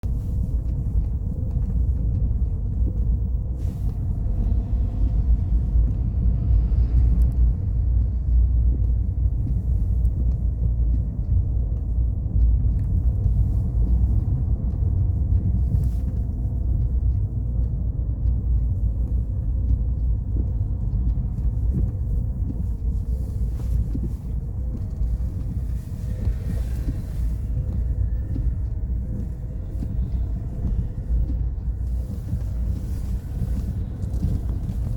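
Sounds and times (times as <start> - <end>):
car engine rumble: 0.0 - 34.9
light ticks: 0.0 - 34.9
road noise: 0.1 - 34.9.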